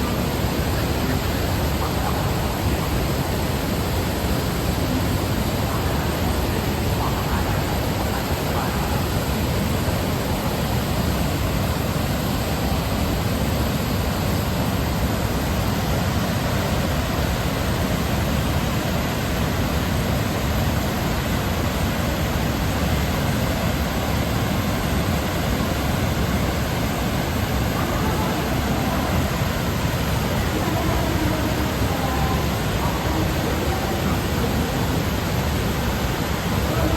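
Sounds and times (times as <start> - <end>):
waterfall and river rushing: 0.0 - 36.9.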